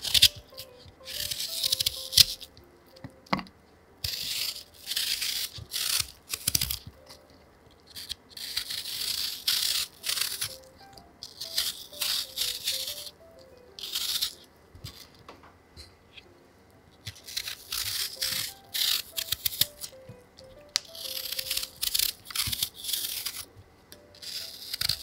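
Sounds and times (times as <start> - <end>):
knife scraping apple skin: 0.0 - 2.5, 4.0 - 13.2, 13.8 - 15.0, 17.0 - 20.0, 20.8 - 25.0
soft background music: 0.0 - 15.0, 16.1 - 25.0.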